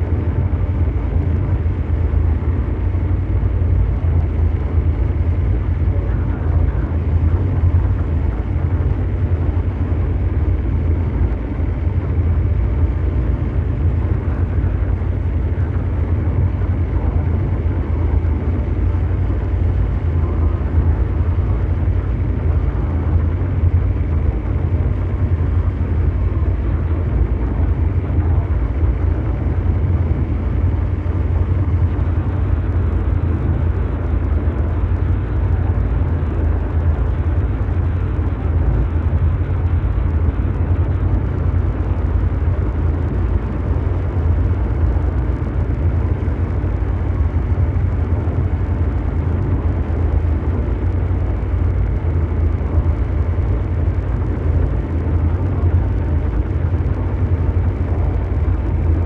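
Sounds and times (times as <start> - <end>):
mechanical drone rumble: 0.0 - 59.0.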